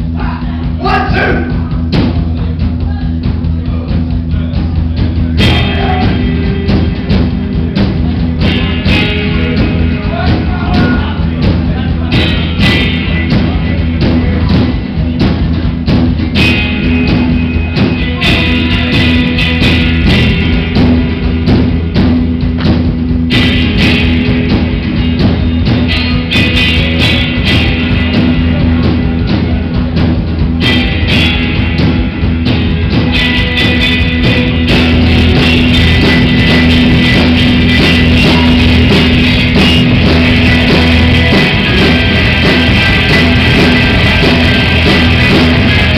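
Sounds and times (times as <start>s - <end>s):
live rock band playing: 0.0s - 45.9s.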